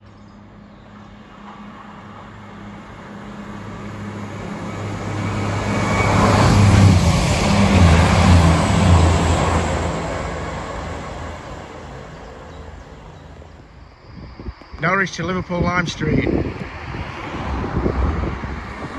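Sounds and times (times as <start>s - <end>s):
diesel train passing: 0.0s - 18.9s.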